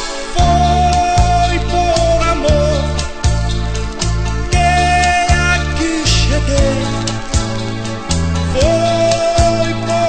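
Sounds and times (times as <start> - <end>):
pop song with bass and drums: 0.0 - 10.0.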